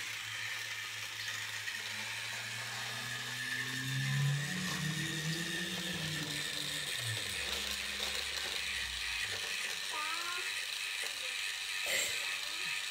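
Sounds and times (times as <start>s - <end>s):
toy train motor running: 0.0s - 12.9s.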